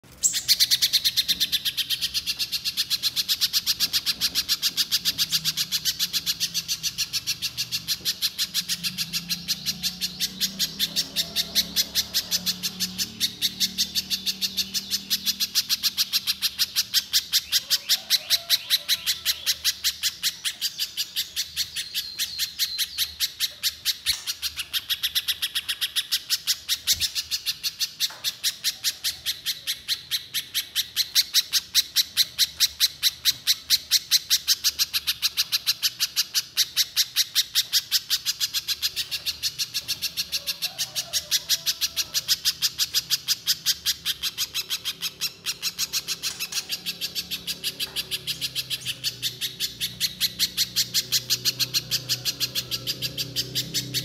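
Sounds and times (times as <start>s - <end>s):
bird singing sharp chipping notes: 0.0s - 41.0s, 42.3s - 54.0s.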